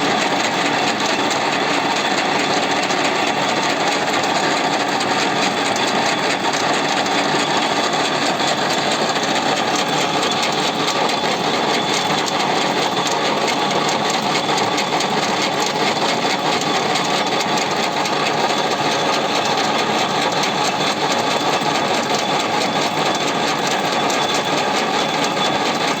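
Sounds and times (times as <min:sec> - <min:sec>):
machine whirring: 0:00.0 - 0:26.0.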